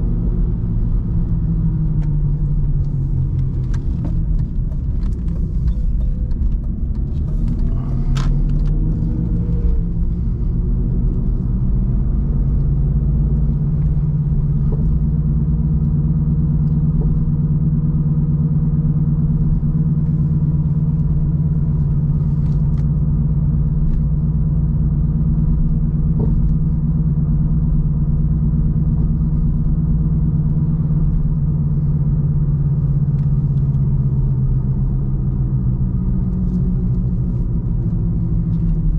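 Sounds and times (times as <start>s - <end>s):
car engine droning: 0.0s - 38.9s
low rumble: 0.0s - 38.9s.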